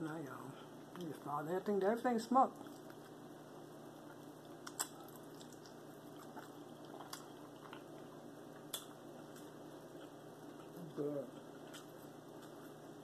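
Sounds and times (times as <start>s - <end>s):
mouth chewing meat: 2.5s - 13.0s.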